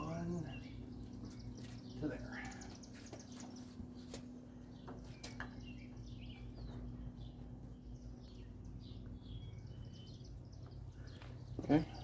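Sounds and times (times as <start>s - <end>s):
low steady hum: 0.0s - 12.0s
small birds chirping: 0.0s - 12.0s.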